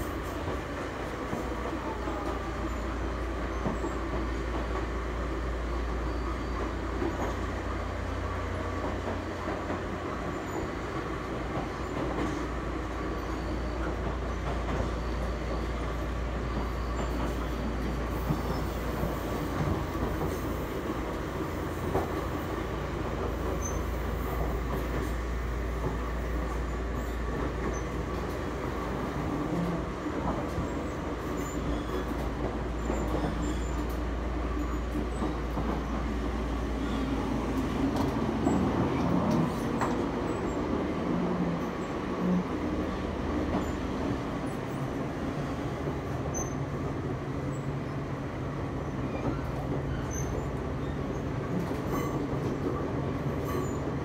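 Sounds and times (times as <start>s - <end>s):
train motors and wheels droning: 0.0s - 54.0s.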